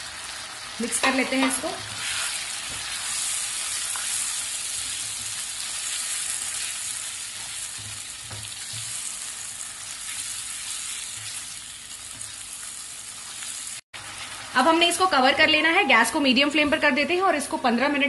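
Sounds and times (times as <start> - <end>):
chicken sizzling in hot oil: 0.0 - 15.9.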